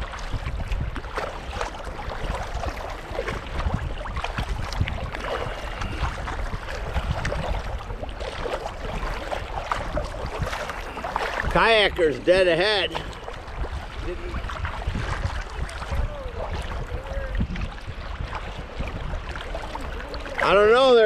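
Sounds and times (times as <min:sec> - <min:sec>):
paddles splashing in water: 0:00.0 - 0:21.0
wind rumble on microphone: 0:00.0 - 0:21.0.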